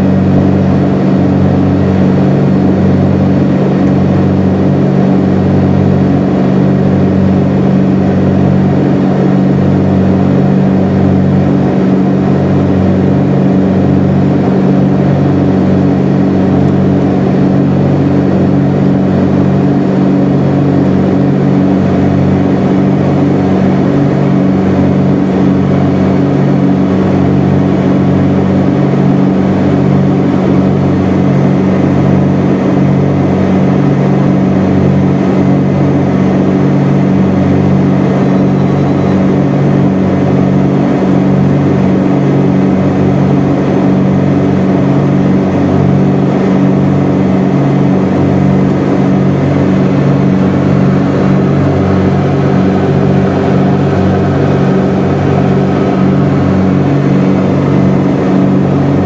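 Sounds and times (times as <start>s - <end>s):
aircraft engines droning: 0.0s - 59.0s.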